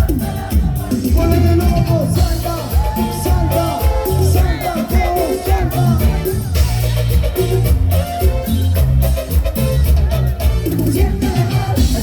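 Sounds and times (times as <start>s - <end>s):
band playing latin dance music: 0.0s - 12.0s.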